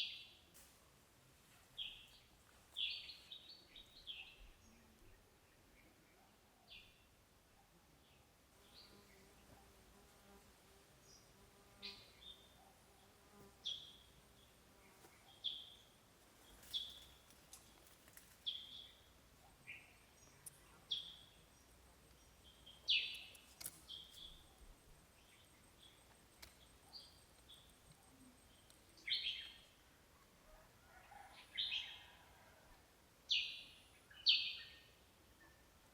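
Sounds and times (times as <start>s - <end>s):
background hiss: 0.0s - 30.6s.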